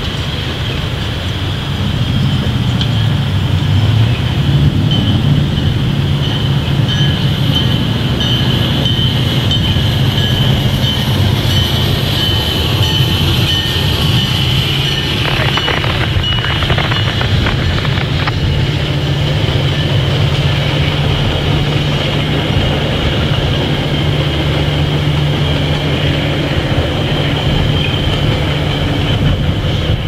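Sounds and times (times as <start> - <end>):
freight train rumbling: 0.0 - 30.0
wheels clicking over rail joints: 0.0 - 30.0.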